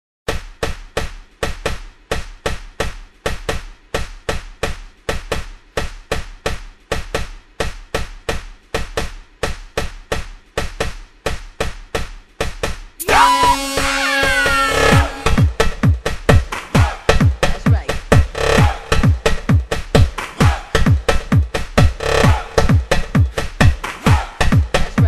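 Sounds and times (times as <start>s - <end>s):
rhythmic knocking: 0.3s - 25.0s.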